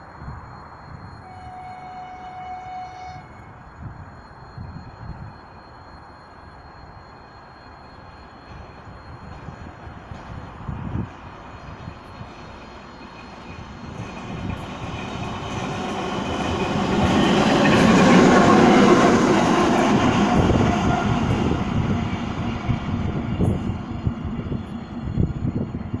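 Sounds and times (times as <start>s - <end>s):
diesel locomotive engine: 0.0s - 26.0s
train wheels on rails: 0.1s - 26.0s.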